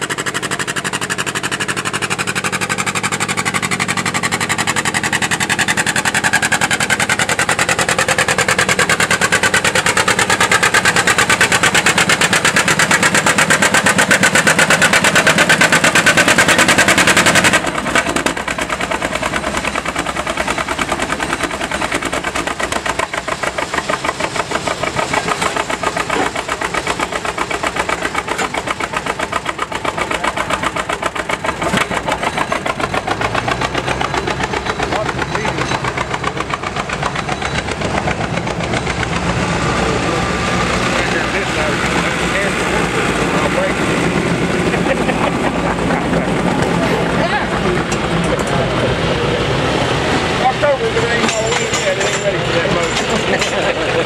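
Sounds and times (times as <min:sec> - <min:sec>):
engine popping slowly: 0:00.0 - 0:54.0
tractor engine under load: 0:00.0 - 0:54.0.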